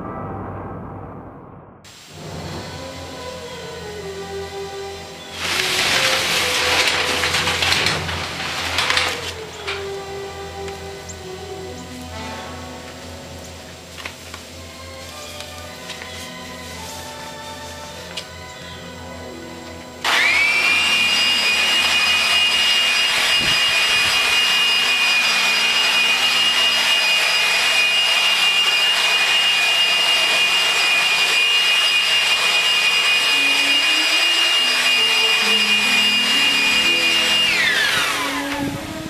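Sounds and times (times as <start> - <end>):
electric leaf blower whining: 2.0 - 12.2, 12.8 - 39.0.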